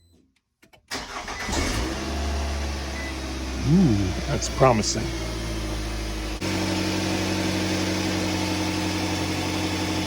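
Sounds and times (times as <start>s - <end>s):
car engine idling: 0.9s - 10.0s.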